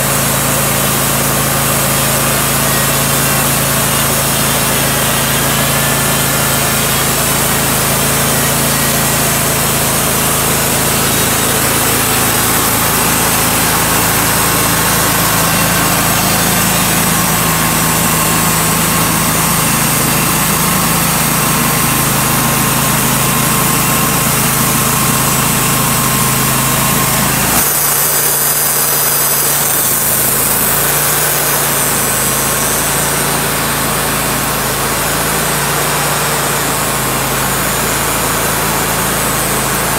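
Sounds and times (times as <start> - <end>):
band blade sawing log: 0.0 - 39.9
sawmill engine running: 0.0 - 39.9.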